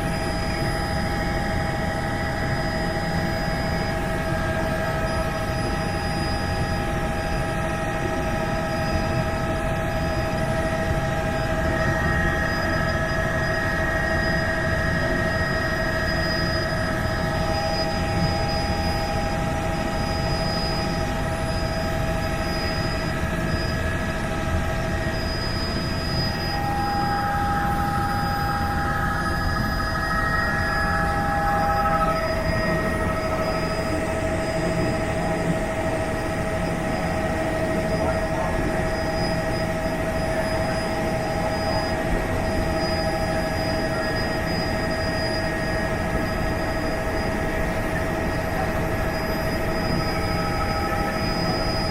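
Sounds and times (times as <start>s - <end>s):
helicopter rotor rumble: 0.0s - 51.9s
helicopter turbine whine: 0.0s - 51.9s.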